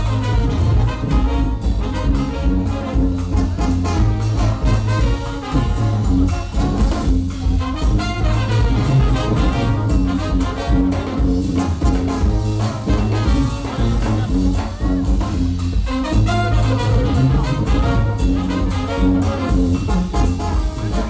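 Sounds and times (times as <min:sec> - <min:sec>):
drum kit: 0:00.0 - 0:21.0
sousaphone bass line: 0:00.0 - 0:21.0
trumpets and trombones: 0:00.0 - 0:21.0.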